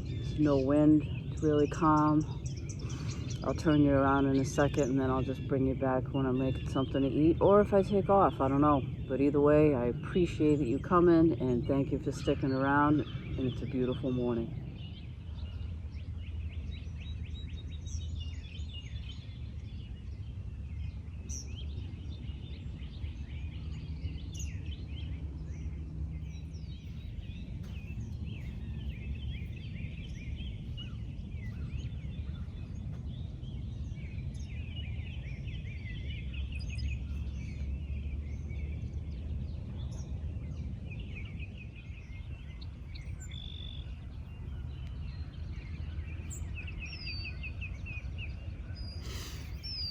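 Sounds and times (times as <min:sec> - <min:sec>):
low rumble: 0:00.0 - 0:47.0
songbirds chirping and trilling: 0:00.0 - 0:49.9.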